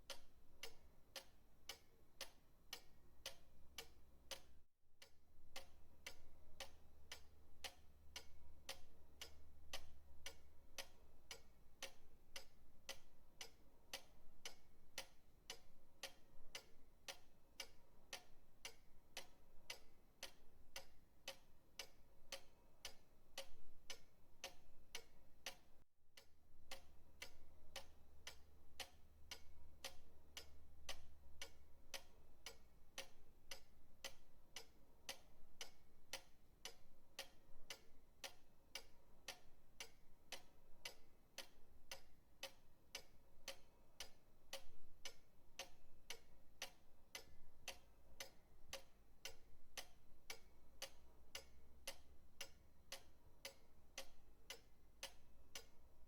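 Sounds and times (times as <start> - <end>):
pendulum clock ticking: 0.0 - 56.0.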